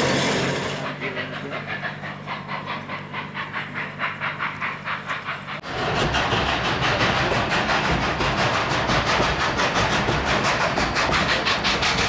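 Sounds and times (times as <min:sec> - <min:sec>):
steam hiss: 0:00.0 - 0:12.0
steam train chugging: 0:00.0 - 0:12.0.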